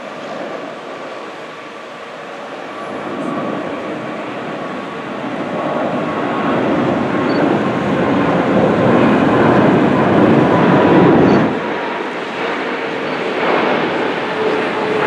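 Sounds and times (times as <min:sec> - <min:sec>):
distant jet engines rushing: 0:00.0 - 0:15.0.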